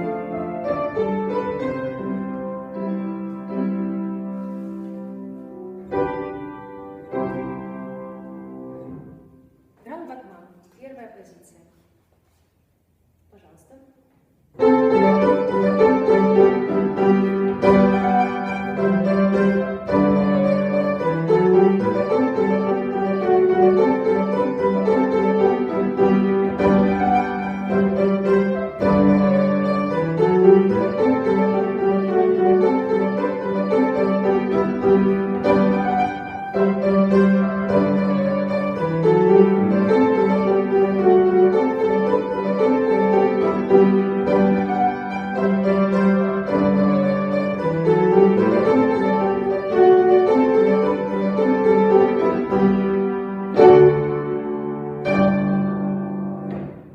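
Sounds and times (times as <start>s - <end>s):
classical piano music with strings: 0.0s - 9.7s, 14.5s - 56.9s.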